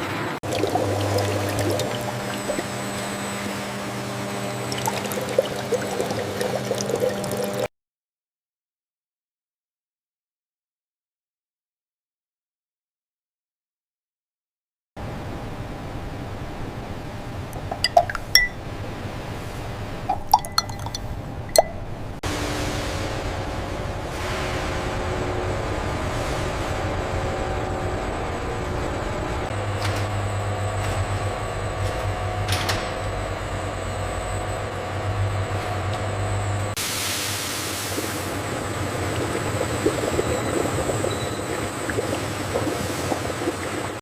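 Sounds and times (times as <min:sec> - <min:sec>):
machinery hum: 0:00.0 - 0:07.7, 0:15.0 - 0:44.0.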